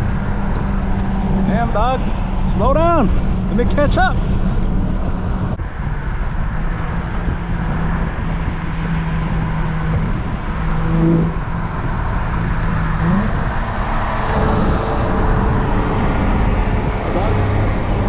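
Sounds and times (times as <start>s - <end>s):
car engine accelerating: 0.0s - 18.0s
road noise: 0.0s - 18.0s.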